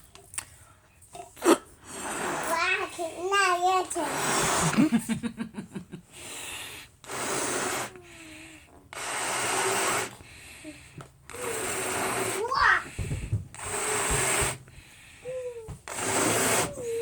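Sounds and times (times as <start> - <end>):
person blowing up balloon: 1.2 - 5.3, 6.0 - 17.0.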